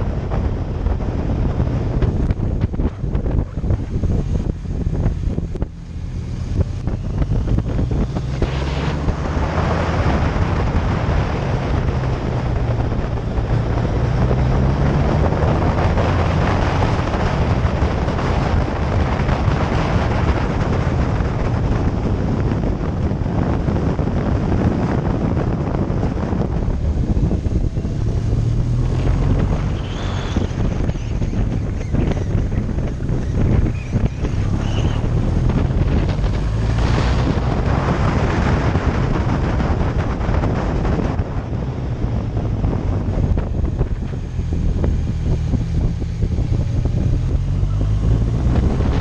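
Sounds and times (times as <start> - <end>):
motorcycle engine hum: 0.0 - 49.0
wind rushing over microphone: 0.0 - 49.0.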